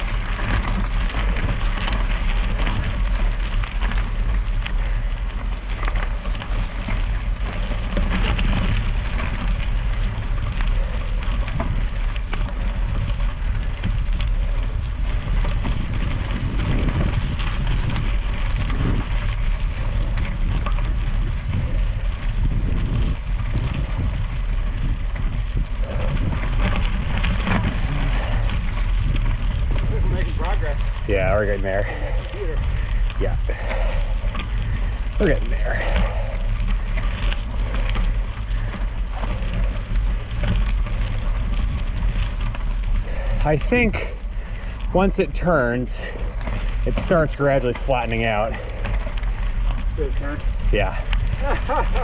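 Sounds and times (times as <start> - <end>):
bicycle tyres on wet gravel: 0.0 - 52.0
rain crackling: 0.0 - 52.0
wind rumble on microphone: 0.0 - 52.0.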